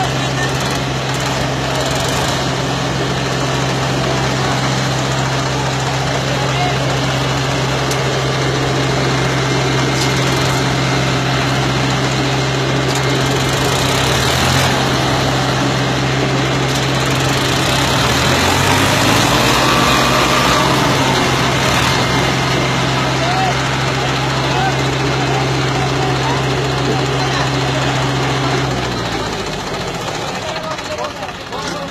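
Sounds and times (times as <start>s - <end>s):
diesel tractor engines droning: 0.0s - 31.9s.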